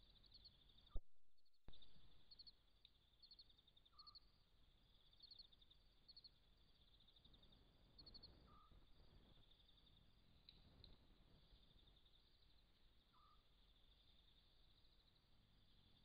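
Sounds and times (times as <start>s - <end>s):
insect chirps: 0.0s - 1.0s, 1.7s - 16.0s
insects trilling: 2.2s - 16.0s.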